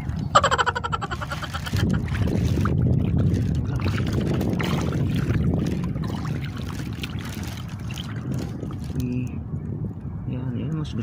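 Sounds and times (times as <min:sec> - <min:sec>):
seawater sloshing: 0:00.0 - 0:09.2
water splashes: 0:00.0 - 0:09.3
wind on microphone: 0:00.0 - 0:11.0.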